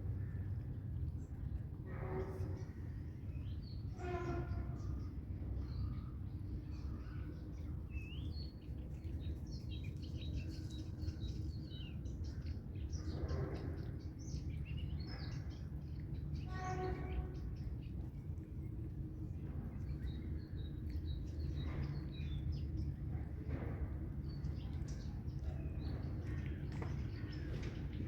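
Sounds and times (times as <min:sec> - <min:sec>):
low background rumble: 0:00.0 - 0:28.0
small birds chirping: 0:04.8 - 0:28.0.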